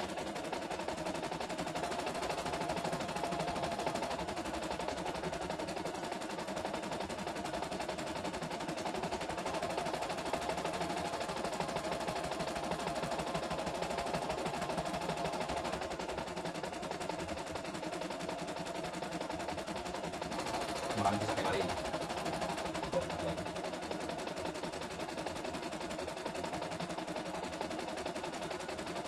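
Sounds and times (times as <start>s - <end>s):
embroidery machine needle clatter: 0.4s - 29.0s.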